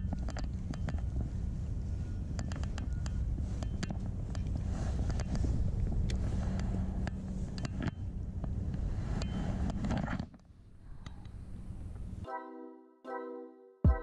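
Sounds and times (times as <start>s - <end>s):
wind rumbling on microphone: 0.0s - 12.2s
faint steady hum: 0.0s - 12.3s.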